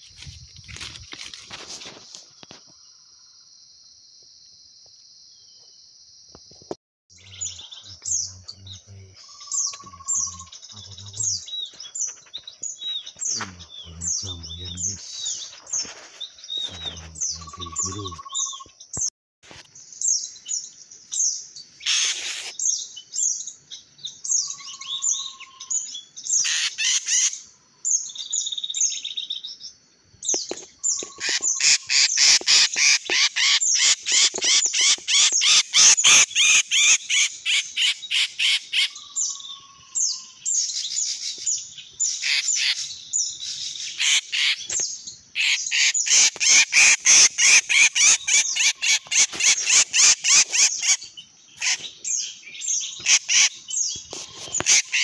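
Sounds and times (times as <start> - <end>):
small birds chirping: 5.3 - 55.0.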